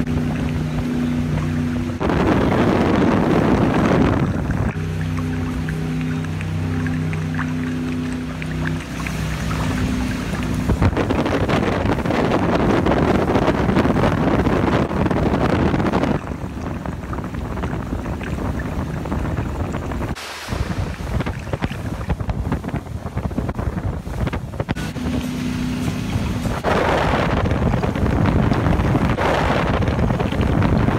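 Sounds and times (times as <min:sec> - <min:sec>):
water rushing past motorboat: 0:00.0 - 0:30.9
wind buffeting microphone: 0:00.0 - 0:30.9.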